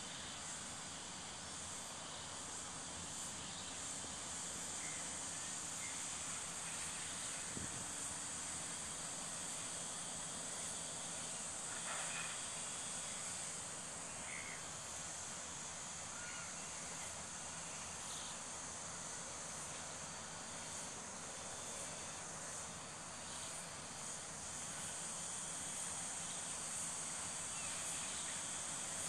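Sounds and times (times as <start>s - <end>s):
insects chorus: 0.0s - 29.0s.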